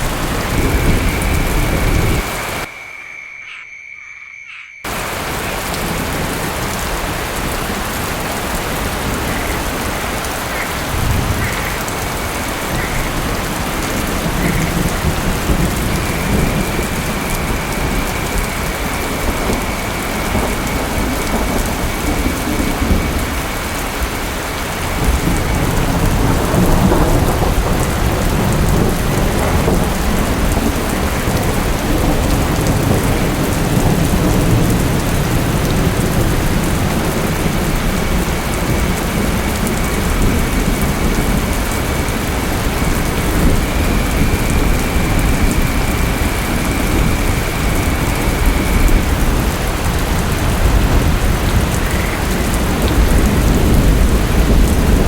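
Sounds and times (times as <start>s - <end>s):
low thunder rumbling: 0.0s - 2.7s, 4.9s - 55.0s
heavy rain: 0.0s - 3.1s, 4.8s - 55.0s.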